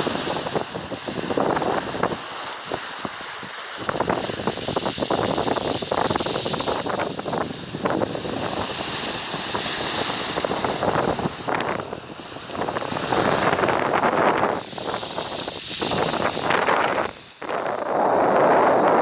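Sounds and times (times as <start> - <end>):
surf on shingle beach: 0.0 - 19.0
wind buffeting microphone: 0.0 - 19.0.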